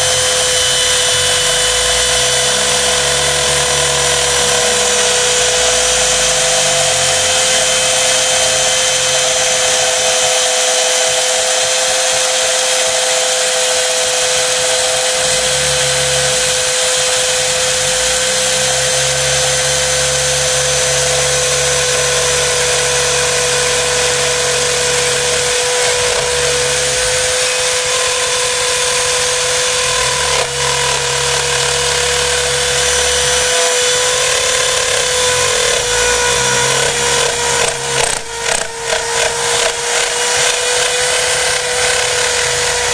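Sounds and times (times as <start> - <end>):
router motor whining: 0.0 - 42.9.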